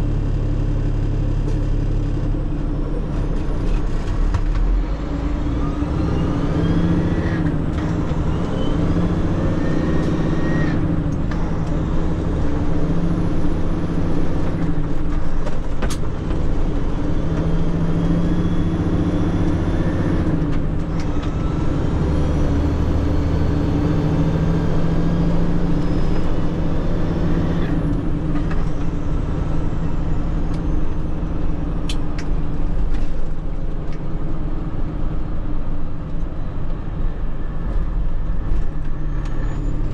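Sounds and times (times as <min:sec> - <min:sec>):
truck diesel engine shifting gears: 0:00.0 - 0:39.9.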